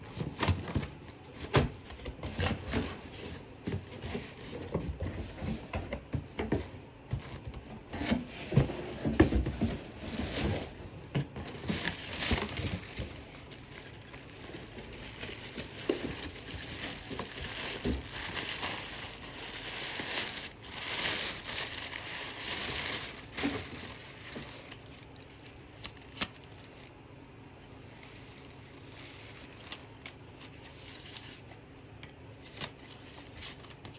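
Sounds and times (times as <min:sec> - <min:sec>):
packaging crinkling and rustling: 0:00.0 - 0:33.9.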